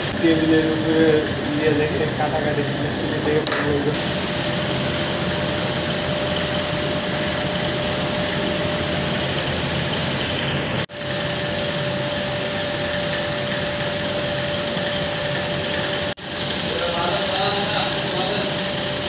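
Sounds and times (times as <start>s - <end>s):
stove hissing: 0.0s - 19.0s.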